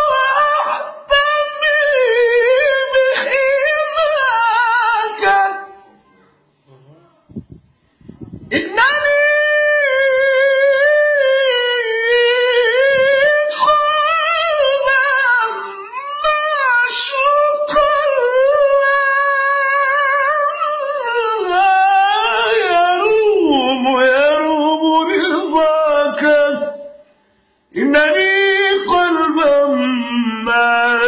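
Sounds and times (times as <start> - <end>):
man singing unaccompanied: 0.0 - 5.9, 8.5 - 27.1, 27.7 - 31.0.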